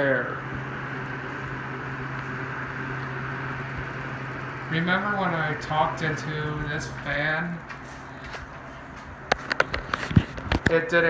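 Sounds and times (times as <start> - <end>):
electric fan humming: 0.0 - 11.0.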